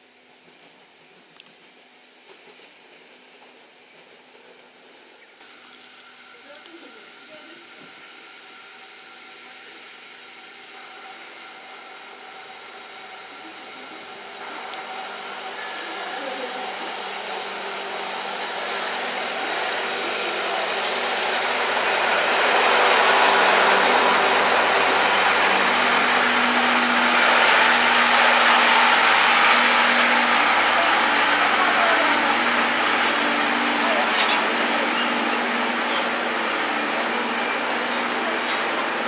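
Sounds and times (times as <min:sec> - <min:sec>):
train passing close by: 0:00.3 - 0:39.0.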